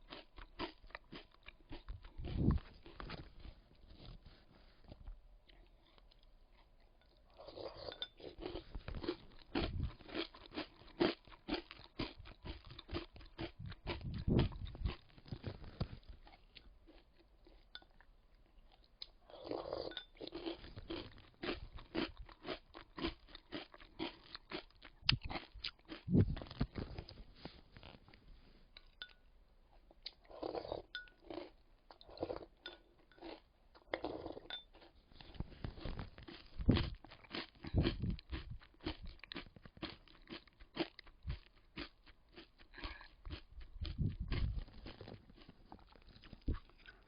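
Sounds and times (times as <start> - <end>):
chewing crunchy granola: 0.0 - 28.9, 29.8 - 47.0.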